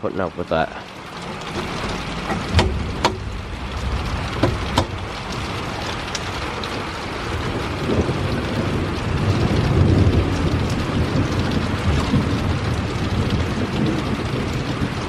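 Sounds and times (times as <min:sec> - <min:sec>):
heavy rain pouring: 0:00.0 - 0:15.0
sharp taps of raindrops: 0:00.8 - 0:15.0
low rumble of thunder: 0:01.0 - 0:15.0.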